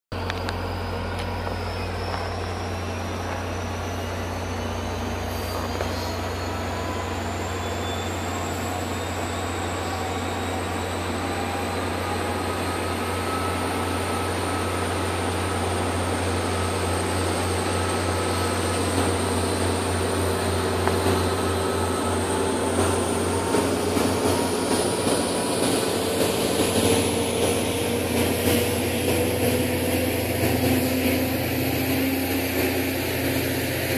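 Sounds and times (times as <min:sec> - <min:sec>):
diesel locomotive humming: 0:00.1 - 0:33.9
train wheel clatter: 0:00.2 - 0:33.9
whines rising in pitch: 0:00.2 - 0:33.9.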